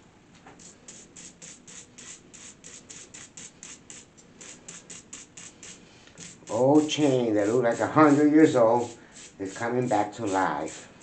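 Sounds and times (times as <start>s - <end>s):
toothbrush scrubbing a chain: 0.6s - 11.0s.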